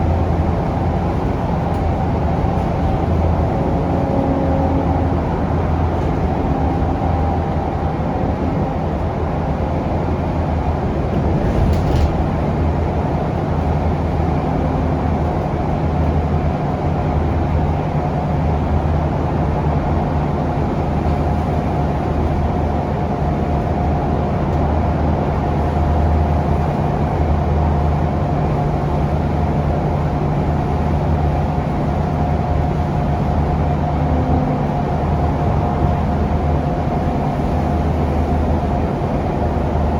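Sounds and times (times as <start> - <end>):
bus diesel engine running: 0.0 - 39.9
road noise: 0.0 - 39.9.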